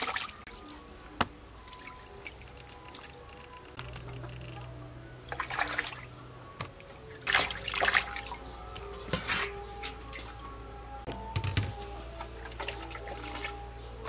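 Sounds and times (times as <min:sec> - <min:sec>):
water splashing and trickling: 0:00.0 - 0:10.8, 0:11.6 - 0:14.0.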